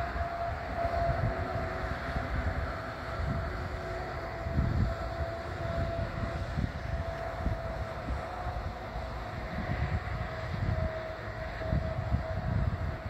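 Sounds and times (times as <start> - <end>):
steady higher hum: 0.0 - 13.0
wind buffeting microphone: 0.0 - 13.0.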